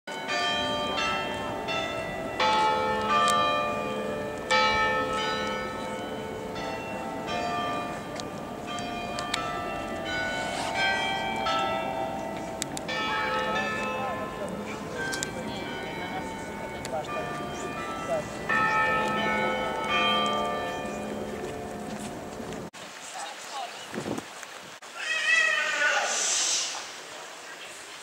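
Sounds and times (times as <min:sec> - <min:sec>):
church bells ringing a tune: 0:00.1 - 0:22.7.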